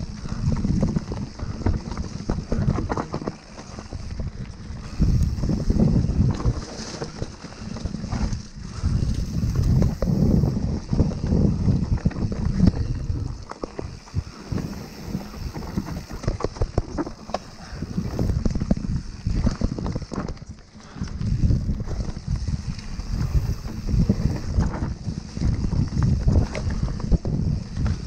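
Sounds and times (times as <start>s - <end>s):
bike rattling and knocking: 0.0s - 28.0s
wind rumble on microphone: 0.0s - 28.0s.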